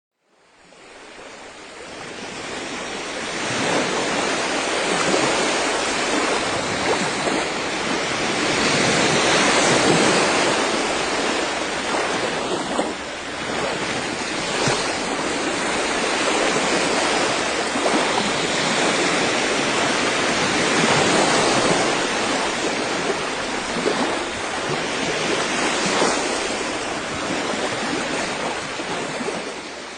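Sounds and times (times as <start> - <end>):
sea surf rushing: 0.4 - 29.9.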